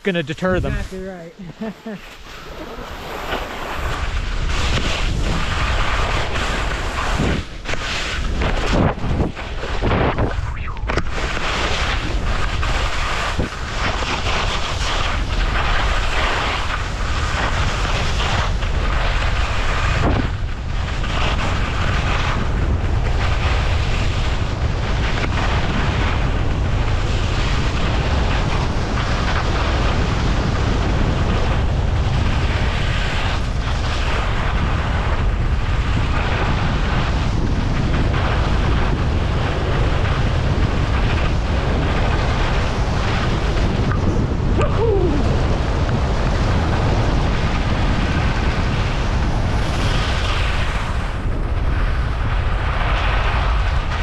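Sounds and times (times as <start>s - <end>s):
skis scraping on snow: 0.0s - 54.0s
wind on microphone: 0.0s - 54.0s.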